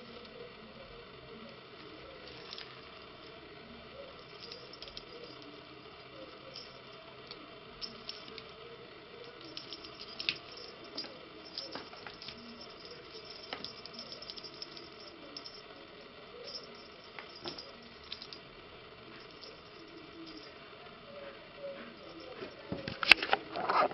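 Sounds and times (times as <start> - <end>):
room hiss: 0.0 - 23.9.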